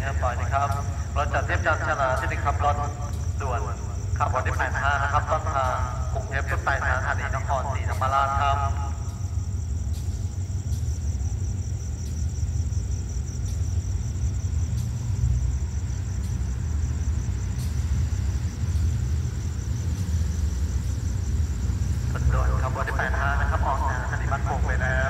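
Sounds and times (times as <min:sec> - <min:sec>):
crickets trilling: 0:00.0 - 0:25.0
distant diesel locomotive rumble: 0:00.0 - 0:25.0.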